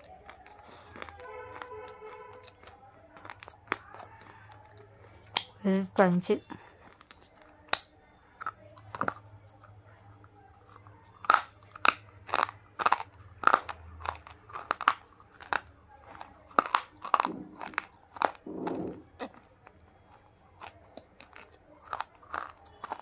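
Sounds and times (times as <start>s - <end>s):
dry crunching while chewing: 0.0s - 23.0s.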